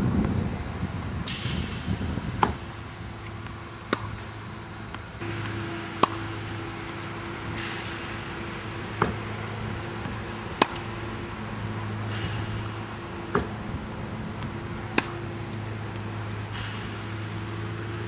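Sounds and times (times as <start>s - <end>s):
steady low hum: 0.0s - 18.0s
racket hitting tennis ball: 1.2s - 18.0s.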